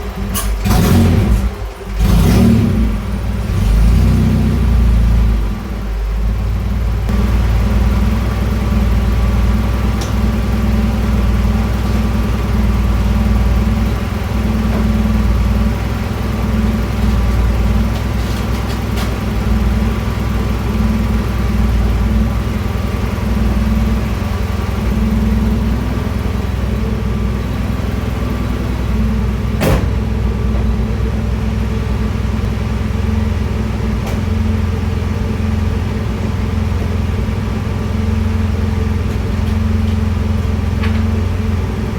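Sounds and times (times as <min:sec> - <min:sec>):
vehicle engine running steadily: 0:00.0 - 0:41.9.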